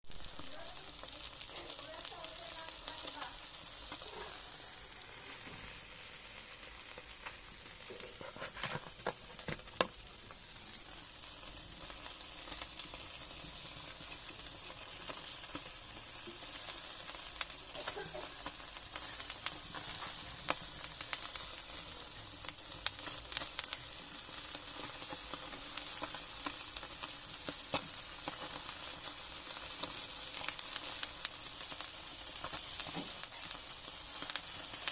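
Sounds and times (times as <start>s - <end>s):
fish sizzling on a grill: 0.0s - 34.9s
fat popping and crackling: 0.1s - 5.8s, 6.7s - 34.9s.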